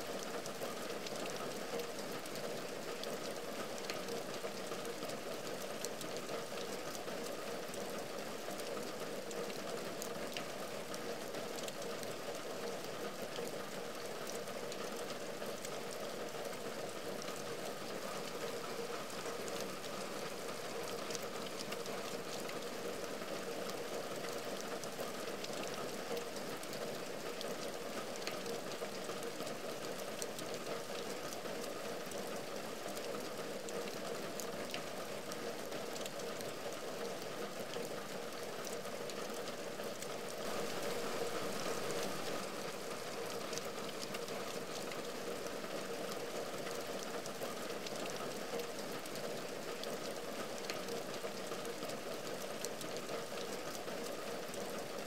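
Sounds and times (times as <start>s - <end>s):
rain on a window: 0.0s - 55.0s.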